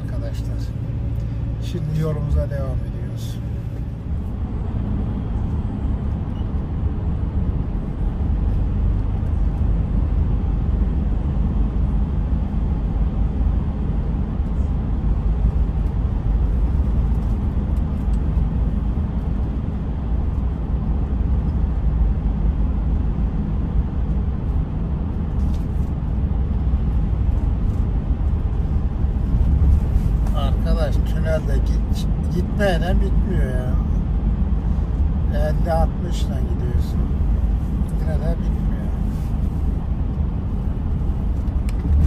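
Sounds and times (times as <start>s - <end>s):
vehicle rumble in tunnel: 0.0s - 42.0s.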